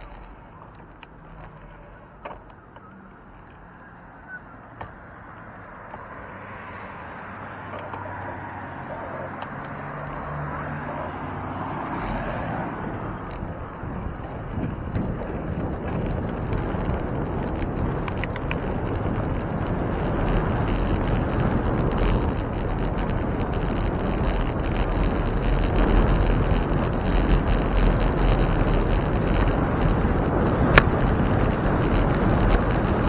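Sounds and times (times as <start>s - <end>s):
road rumble: 0.0s - 33.0s
wind rushing over microphone: 0.0s - 33.0s.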